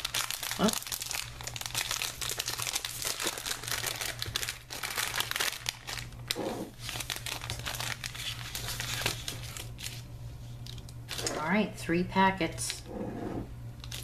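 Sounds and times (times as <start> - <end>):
plastic wrapper crinkling: 0.0 - 11.5, 13.8 - 14.0.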